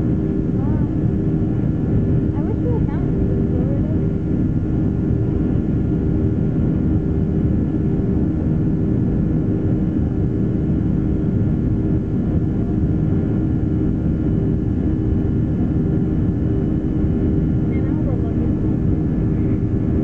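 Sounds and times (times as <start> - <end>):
jet engine roar in cabin: 0.0 - 20.0.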